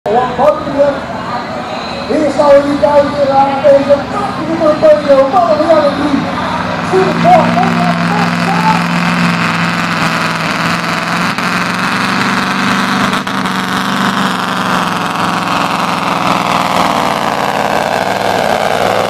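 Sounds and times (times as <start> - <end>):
truck engine at full throttle: 0.1 - 19.0.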